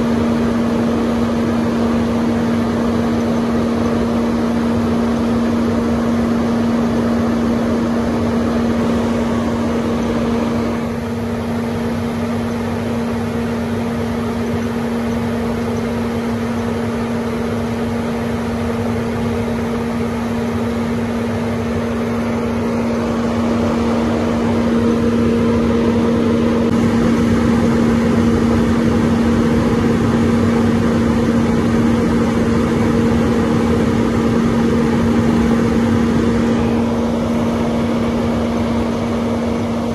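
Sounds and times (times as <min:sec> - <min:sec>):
grain dryer burner and blower hum: 0:00.0 - 0:39.9.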